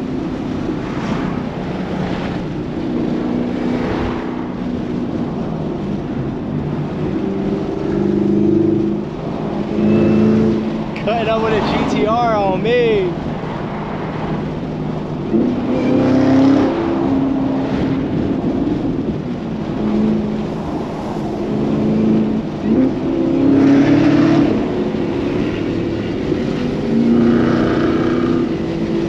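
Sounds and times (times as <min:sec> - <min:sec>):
road and wind noise: 0:00.0 - 0:29.0.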